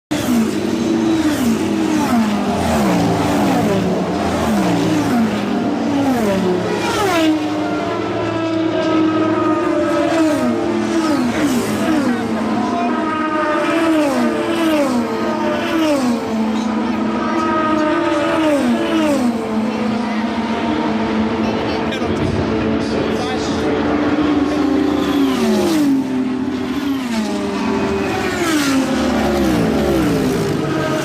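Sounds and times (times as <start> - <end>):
race cars passing at speed: 0.1 - 31.0.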